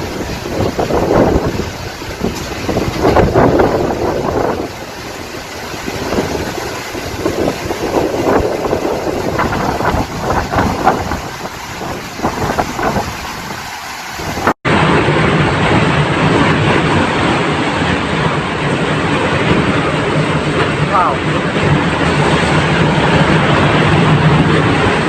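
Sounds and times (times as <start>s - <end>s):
rushing noise: 0.0s - 25.0s
strong wind buffeting microphone: 0.0s - 25.0s.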